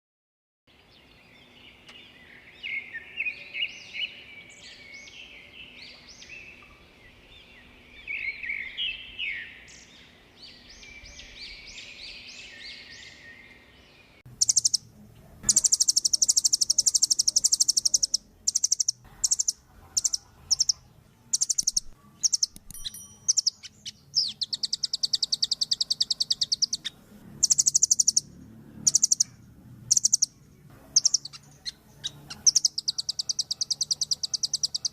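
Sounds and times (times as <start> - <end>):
bird chirping and trilling: 0.7 - 34.9.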